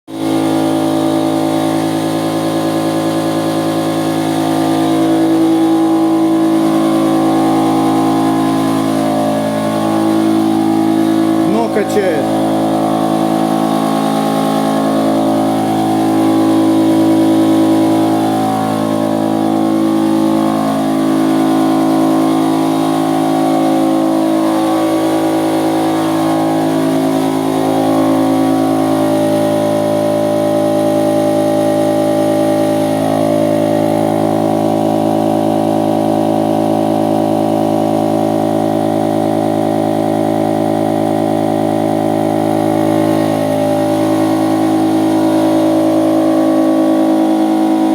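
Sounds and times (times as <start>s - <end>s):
outboard motor running: 0.1s - 47.9s.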